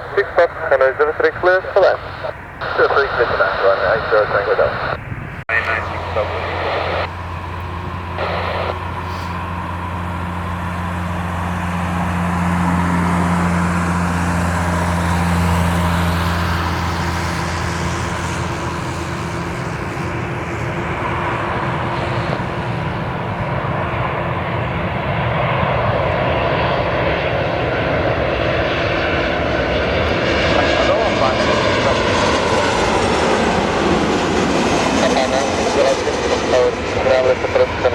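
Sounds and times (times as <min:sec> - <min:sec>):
airliner engines running: 0:00.0 - 0:37.9
high engine whine: 0:00.0 - 0:37.9.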